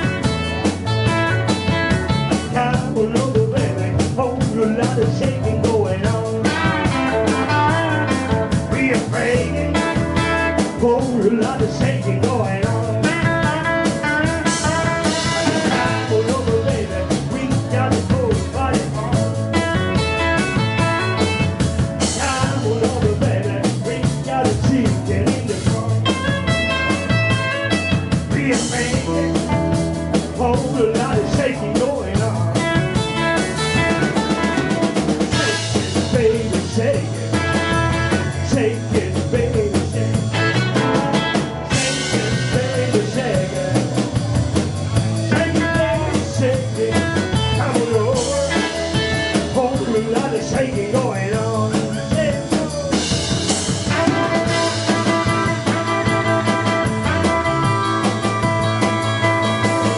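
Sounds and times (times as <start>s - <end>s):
live rock and roll band: 0.0s - 59.9s
man singing lead: 0.0s - 59.9s.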